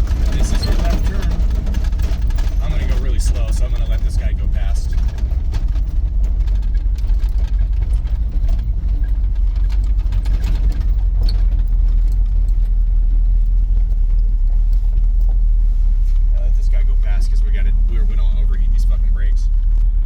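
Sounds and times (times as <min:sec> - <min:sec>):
pickup engine running at low speed: 0:00.0 - 0:20.0.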